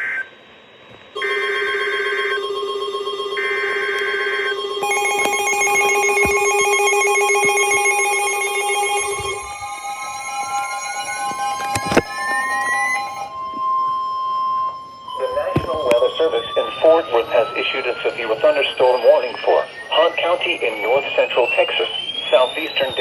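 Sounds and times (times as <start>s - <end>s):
steady alert tones: 1.2s - 13.5s, 14.2s - 23.0s
warbling data tones: 1.2s - 23.0s.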